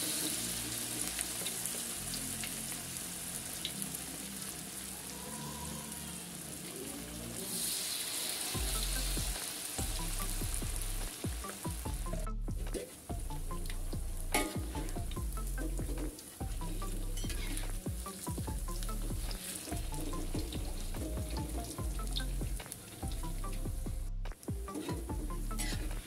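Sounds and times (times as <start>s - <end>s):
batter deep-frying in oil: 0.0s - 5.4s, 6.0s - 12.2s, 12.8s - 23.8s.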